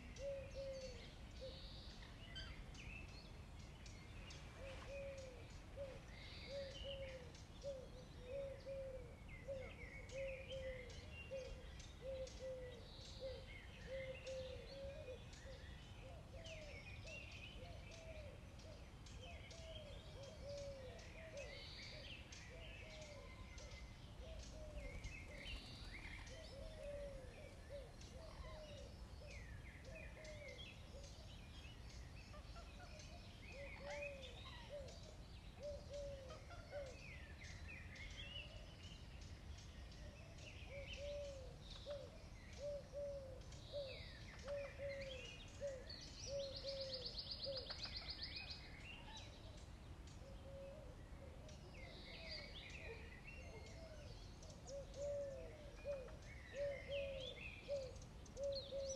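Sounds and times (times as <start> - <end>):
birds chirping and calling: 0.0 - 58.9.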